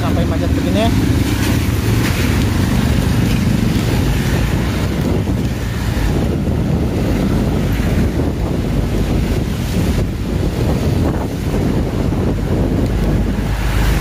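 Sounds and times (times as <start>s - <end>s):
heavy rain hissing: 0.0s - 14.0s
wind buffeting microphone: 0.0s - 14.0s.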